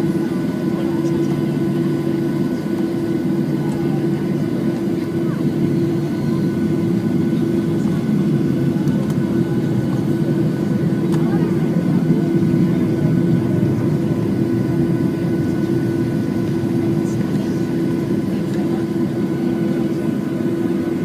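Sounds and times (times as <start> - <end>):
airplane cabin engine drone: 0.0 - 21.0
faint steady whines: 0.0 - 21.0.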